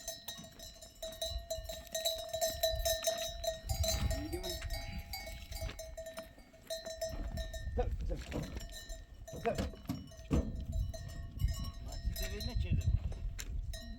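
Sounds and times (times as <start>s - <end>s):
livestock bells clinking: 0.0s - 13.9s.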